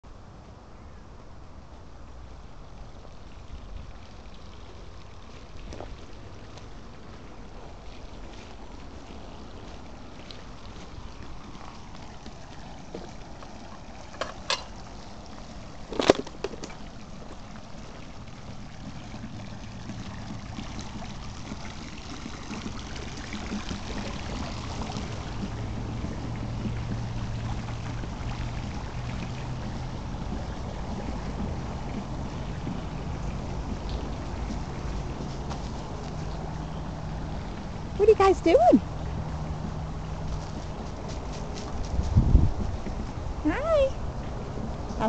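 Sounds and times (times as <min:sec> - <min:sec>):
low steady hum: 0:00.0 - 0:45.0
water splashing from pool jet: 0:01.4 - 0:45.0.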